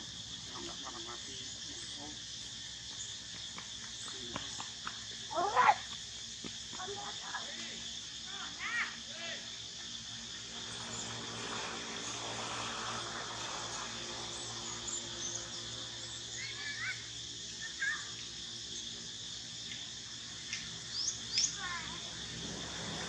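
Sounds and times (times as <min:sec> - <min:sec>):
high drone of insects: 0:00.0 - 0:23.0.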